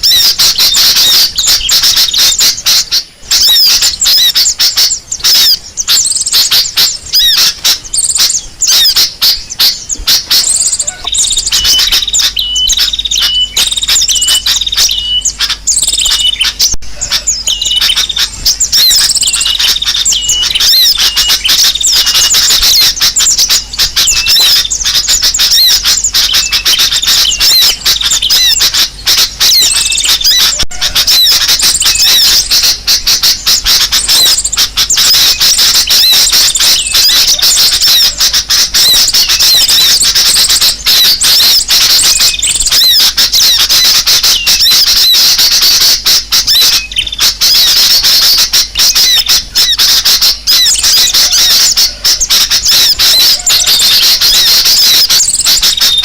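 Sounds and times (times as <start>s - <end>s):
short repeated bird notes: 0.0s - 56.0s
small birds chirping and scolding: 0.0s - 56.0s.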